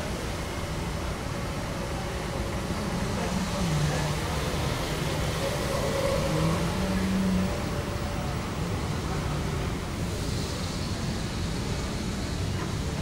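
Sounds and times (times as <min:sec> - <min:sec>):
terminal hall noise: 0:00.0 - 0:13.0.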